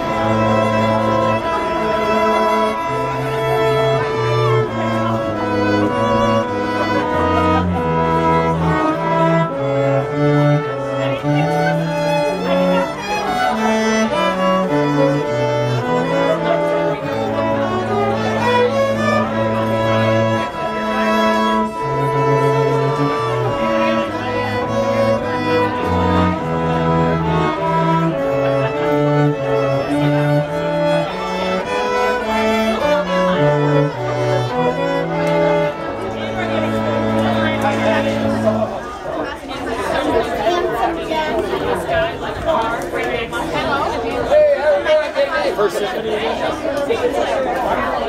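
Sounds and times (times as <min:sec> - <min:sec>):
cello holding low notes: 0:00.0 - 0:44.9
violins playing melody: 0:00.0 - 0:48.0.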